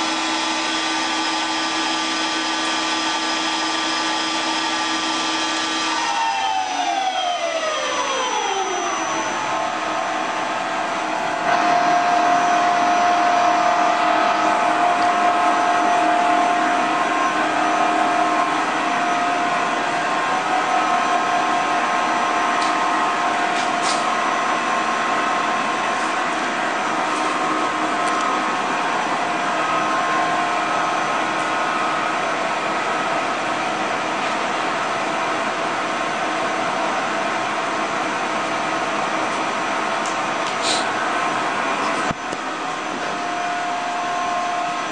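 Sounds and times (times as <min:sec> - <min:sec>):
lathe whine and hum: 0:00.0 - 0:44.9.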